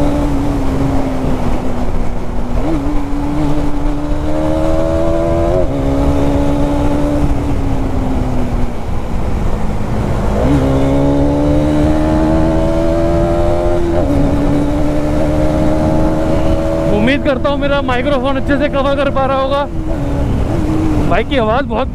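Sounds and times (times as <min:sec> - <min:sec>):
motorcycle engine accelerating: 0:00.0 - 0:21.9
wind and road noise: 0:00.0 - 0:21.9.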